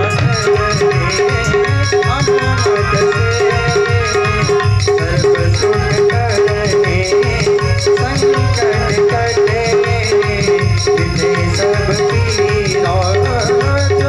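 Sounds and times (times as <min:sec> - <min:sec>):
steady drum beat: 0:00.0 - 0:14.0
wavering melody: 0:00.0 - 0:14.0.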